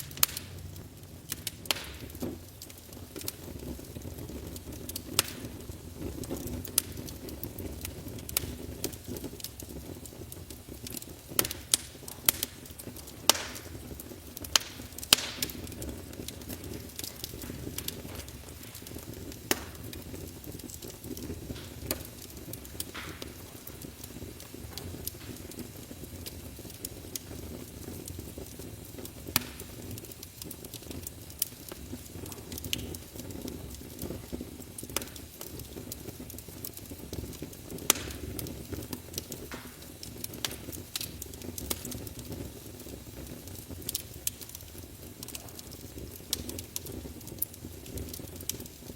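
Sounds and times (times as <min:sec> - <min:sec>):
fire crackling and popping: 0:00.0 - 0:48.9
flames rushing: 0:00.0 - 0:48.9.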